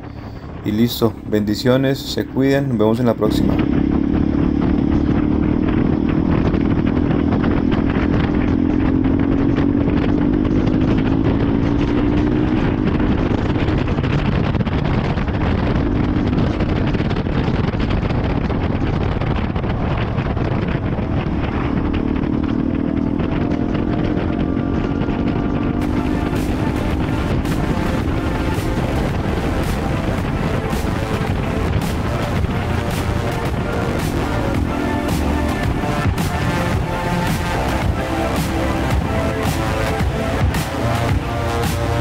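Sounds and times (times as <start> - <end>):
motorcycle engine cruising: 0.0 - 42.0
wind and road noise: 0.0 - 42.0.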